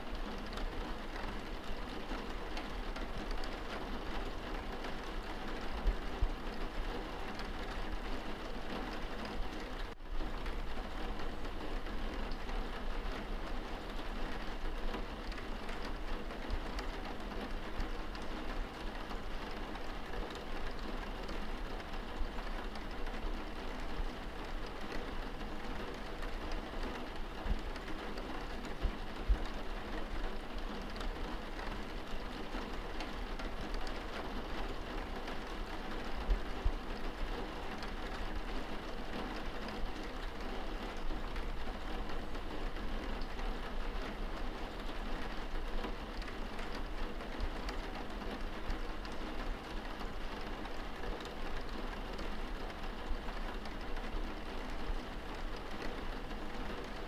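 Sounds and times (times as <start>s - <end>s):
rain pattering on window glass: 0.0s - 57.0s.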